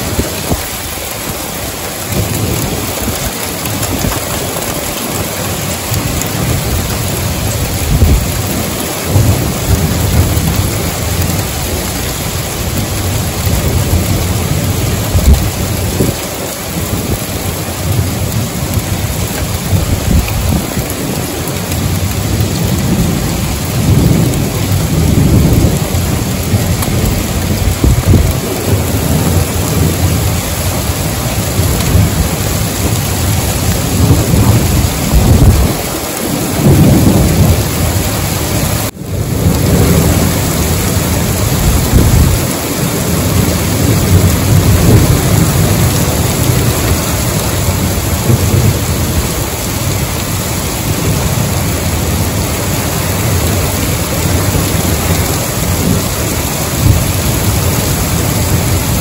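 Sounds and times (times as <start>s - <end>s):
heavy rain on pavement and cars: 0.0s - 59.0s
thunder rumbling: 0.0s - 59.0s.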